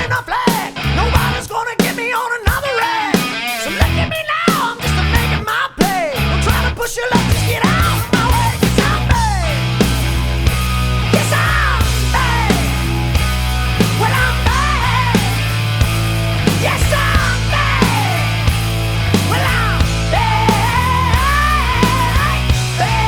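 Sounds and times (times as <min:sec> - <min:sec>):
loud rock music: 0:00.0 - 0:23.0.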